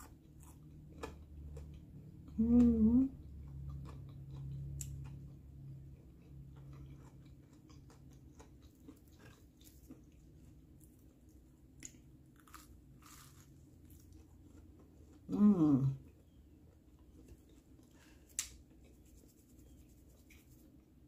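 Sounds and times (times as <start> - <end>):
low hum: 0.0 - 20.7
soft chewing: 0.0 - 21.0.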